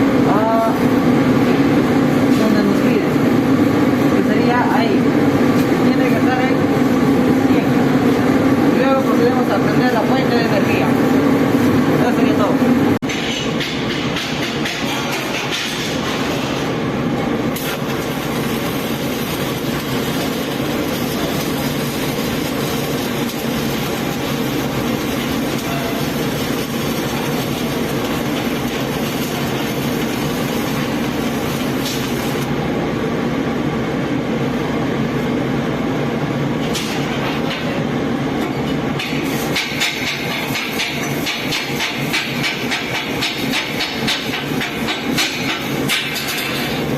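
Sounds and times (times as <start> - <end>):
welding power source running: 0.0 - 46.9.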